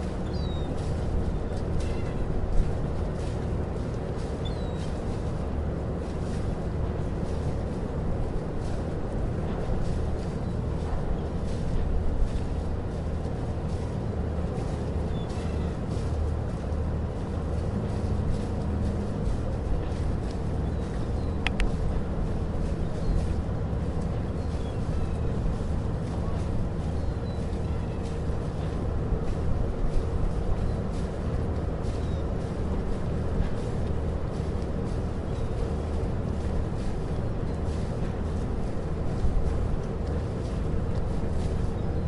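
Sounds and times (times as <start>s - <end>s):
vehicle running rumble: 0.0s - 42.0s.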